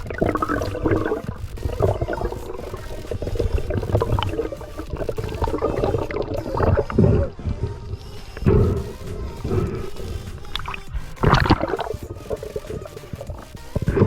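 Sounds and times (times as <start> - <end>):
bubbly clicks: 0.0 - 14.0
low rumbling: 0.0 - 14.0
water churning underwater: 0.0 - 14.0.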